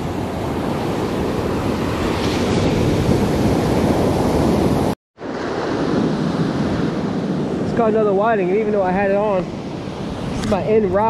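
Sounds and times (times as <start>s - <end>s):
surf breaking on a beach: 0.0s - 11.0s
wind buffeting the microphone: 0.0s - 11.0s.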